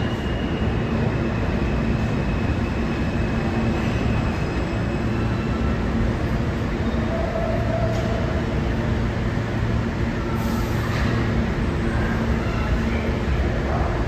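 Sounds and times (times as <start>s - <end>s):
subway train wheels rumbling: 0.0s - 14.0s.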